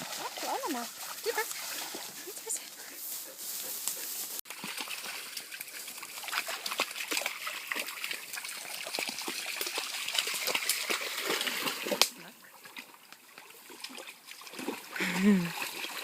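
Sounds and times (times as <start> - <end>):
puppy splashing in water: 0.0 - 2.7, 4.5 - 16.0
water trickling: 0.0 - 2.8, 4.5 - 16.0.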